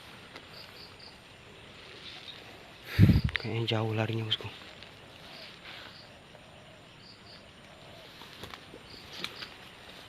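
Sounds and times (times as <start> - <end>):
rustles: 0.0 - 10.0.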